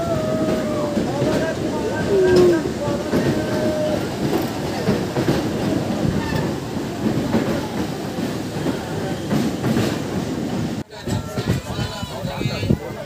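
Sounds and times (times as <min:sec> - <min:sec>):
clickety-clack over rail joints: 0:00.0 - 0:13.0
train wheels rumbling on track: 0:00.0 - 0:13.0.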